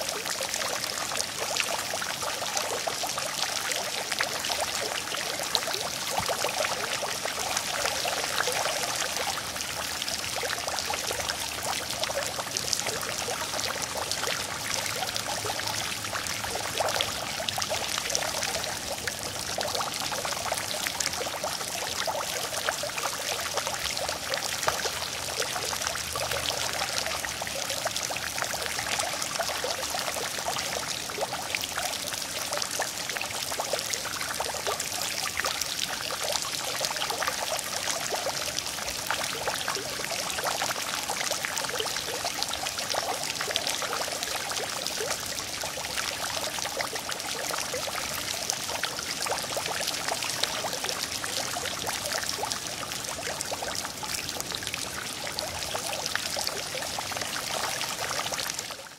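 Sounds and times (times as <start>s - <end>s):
fountain water splashing into basin: 0.0s - 58.9s.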